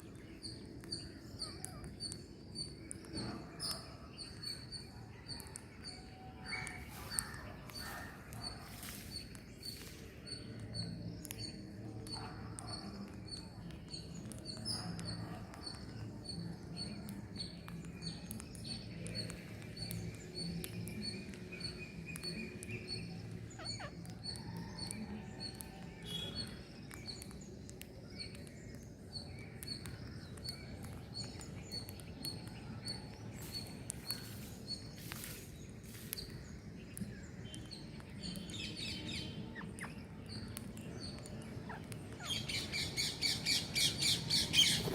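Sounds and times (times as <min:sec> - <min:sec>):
bird chirping: 0:00.0 - 0:44.9.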